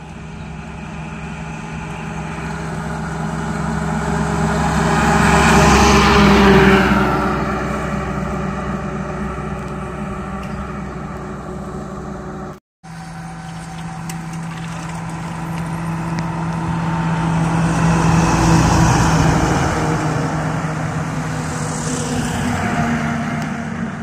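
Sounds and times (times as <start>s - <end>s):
truck driving past: 0.0s - 24.0s.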